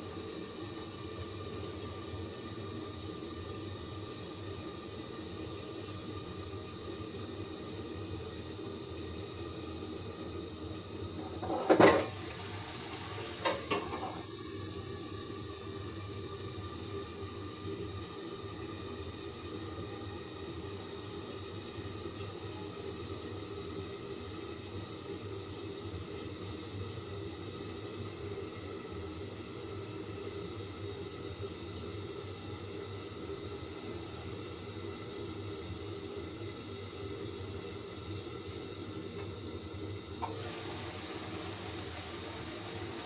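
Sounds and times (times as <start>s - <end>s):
food cooking in covered pan: 0.0s - 43.0s.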